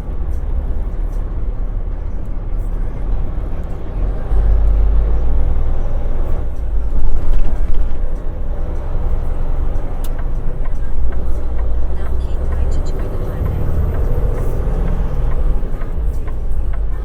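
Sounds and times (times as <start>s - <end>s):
heavy truck engine rumble: 0.0s - 17.0s.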